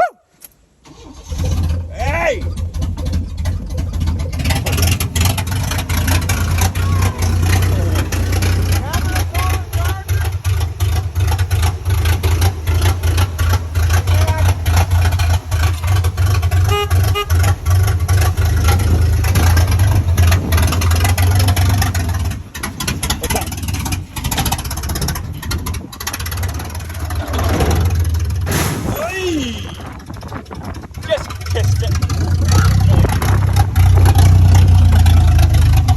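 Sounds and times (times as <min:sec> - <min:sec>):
truck engine rumbling: 0:00.6 - 0:35.9.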